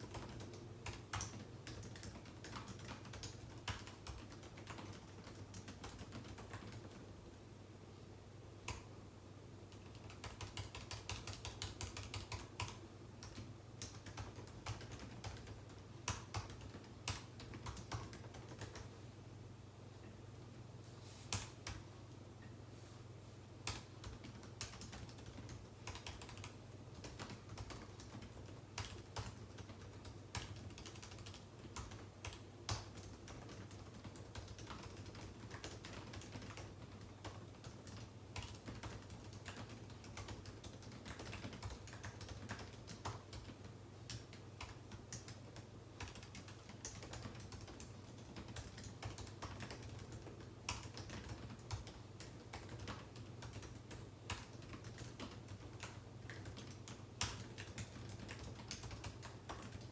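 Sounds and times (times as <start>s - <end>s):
keyboard typing clicks: 0.0s - 7.0s, 9.7s - 18.9s, 23.6s - 59.9s.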